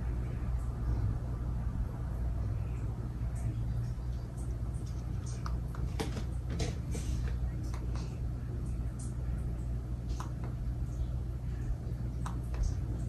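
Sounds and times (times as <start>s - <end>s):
ceiling fan motor hum: 0.0s - 13.0s.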